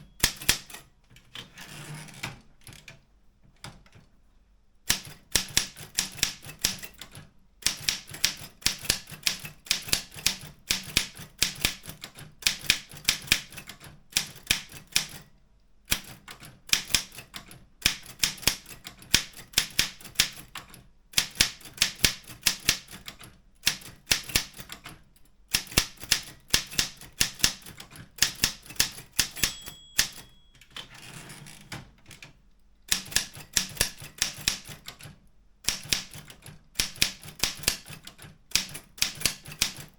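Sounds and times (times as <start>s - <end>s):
manual typewriter keystroke clacks: 0.0s - 3.0s, 4.9s - 15.3s, 15.9s - 39.9s.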